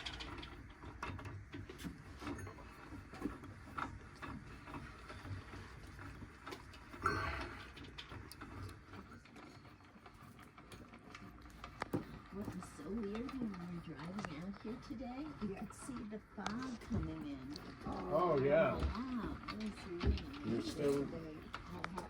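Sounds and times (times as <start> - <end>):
cable winch clicking and rattling: 0.0 - 22.0.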